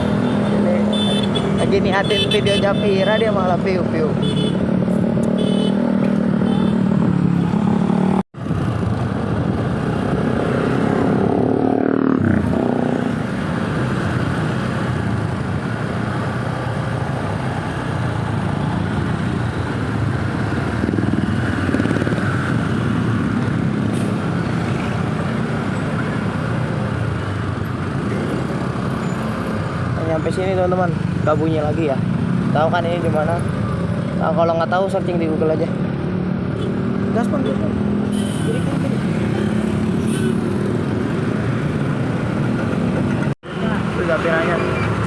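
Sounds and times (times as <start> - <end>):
road traffic noise: 0.0 - 45.0.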